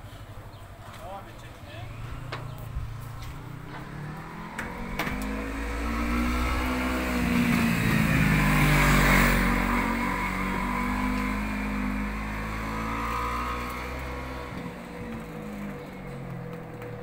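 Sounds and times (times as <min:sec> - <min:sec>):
vehicle passing: 0:01.2 - 0:17.0.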